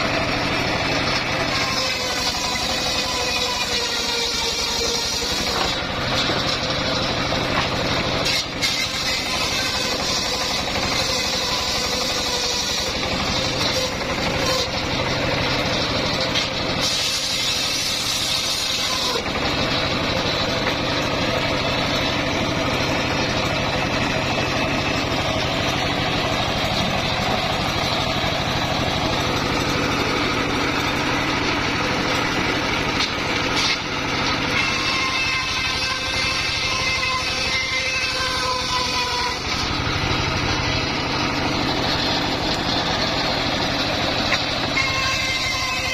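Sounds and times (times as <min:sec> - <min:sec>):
engine-driven circular saw running: 0:00.0 - 0:45.9.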